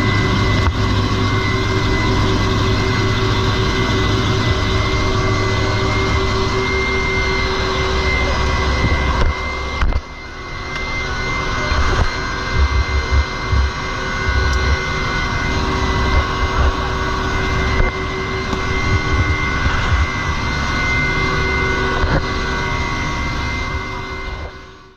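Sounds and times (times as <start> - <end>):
helicopter rotor noise: 0.0 - 24.9
helicopter turbine whine: 0.0 - 24.9.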